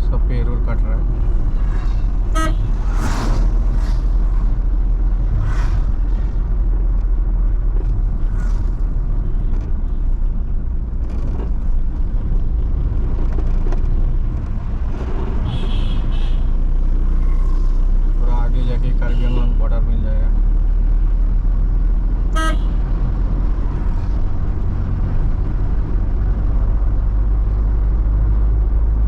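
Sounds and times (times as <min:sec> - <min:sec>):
van engine and road rumble: 0:00.0 - 0:29.0.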